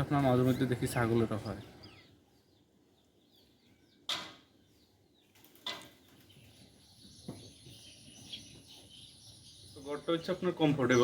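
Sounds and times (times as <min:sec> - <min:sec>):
faint bird chirps: 0:00.4 - 0:11.0.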